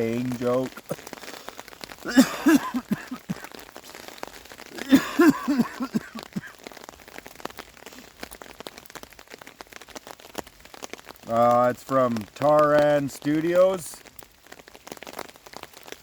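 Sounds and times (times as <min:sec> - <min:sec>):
rain drops pattering: 0:00.0 - 0:16.0.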